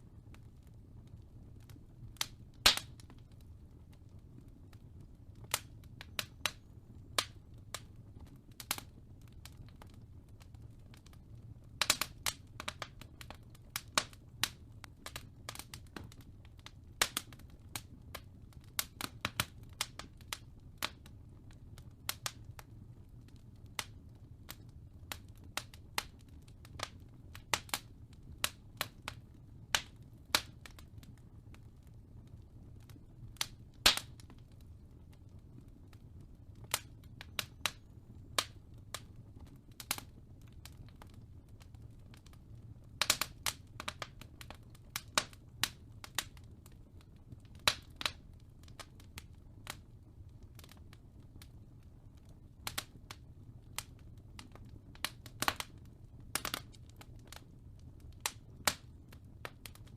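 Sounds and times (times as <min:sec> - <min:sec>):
low fire rumble: 0:00.0 - 0:59.9
wood fire crackling: 0:00.0 - 0:59.9.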